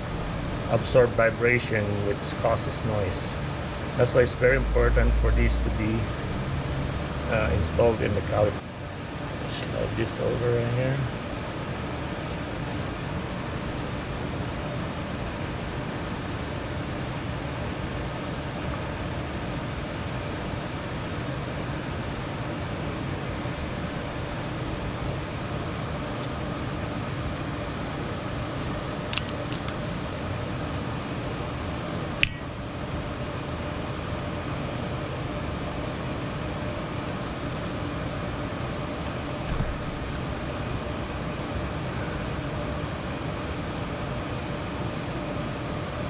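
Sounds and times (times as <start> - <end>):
fan-like background noise: 0.0 - 46.0.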